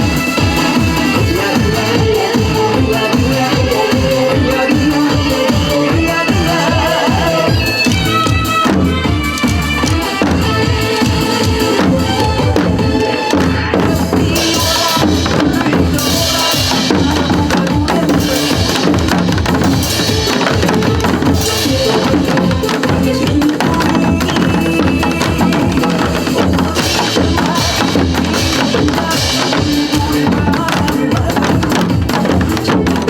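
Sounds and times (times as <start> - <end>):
drum kit beat: 0.0 - 33.0
hourglass drums playing: 0.0 - 33.0
trot song backing track: 0.0 - 33.0.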